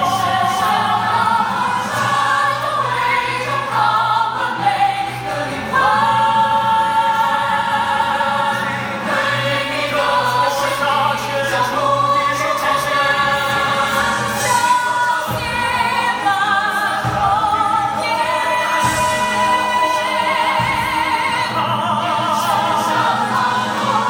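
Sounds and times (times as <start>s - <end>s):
musical accompaniment: 0.0s - 24.0s
several voices singing together: 0.0s - 24.0s.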